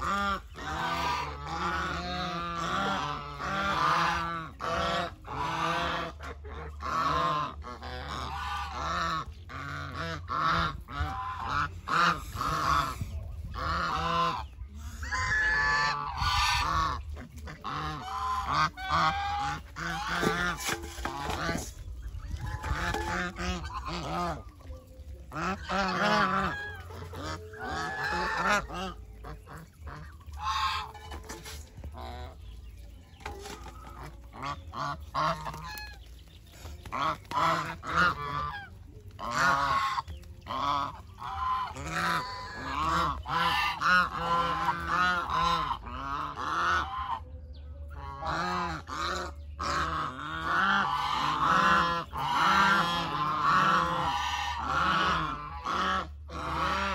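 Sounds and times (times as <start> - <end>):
geese honking: 0.0 - 56.9.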